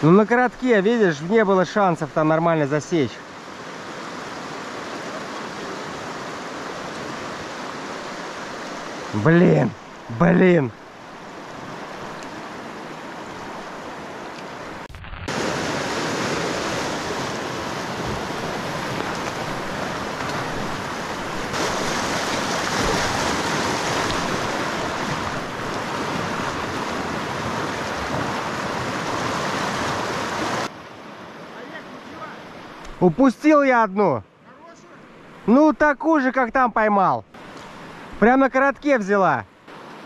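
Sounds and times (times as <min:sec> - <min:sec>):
river water rushing over rocks: 0:00.0 - 0:33.8, 0:37.4 - 0:40.0.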